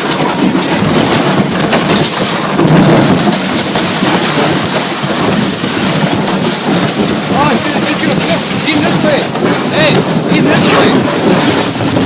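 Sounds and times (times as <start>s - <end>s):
boat rushing over sand: 0.0s - 12.0s
wind buffeting microphone: 0.0s - 12.0s.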